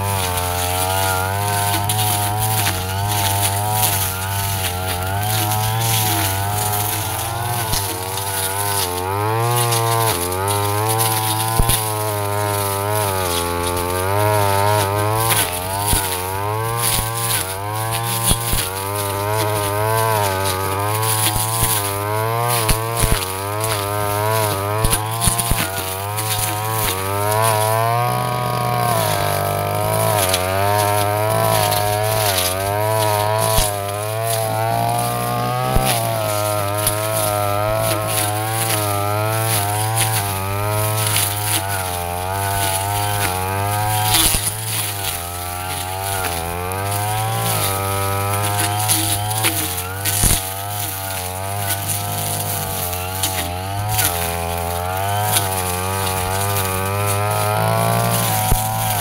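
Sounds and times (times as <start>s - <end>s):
brush cutter engine running: 0.0s - 59.0s.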